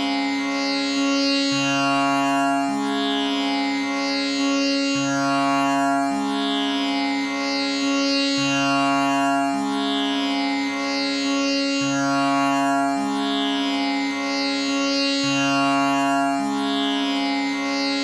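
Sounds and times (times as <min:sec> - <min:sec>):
tanpura drone: 0:00.0 - 0:18.0.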